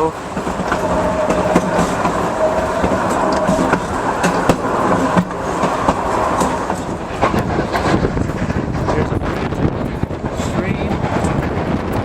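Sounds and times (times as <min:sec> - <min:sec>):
railcar wheels rumbling: 0:00.0 - 0:12.0
wheels clicking over rails: 0:00.0 - 0:12.0.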